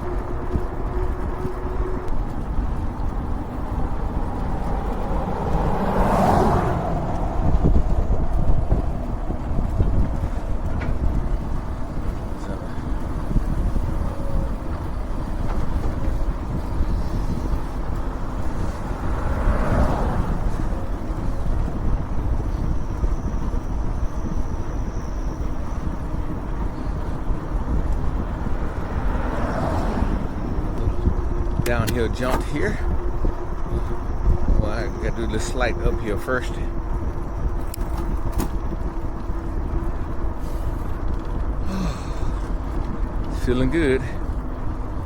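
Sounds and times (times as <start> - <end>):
car passing: 0.0 - 45.0
e-bike rumble: 0.0 - 45.0
wind buffeting microphone: 0.0 - 45.0.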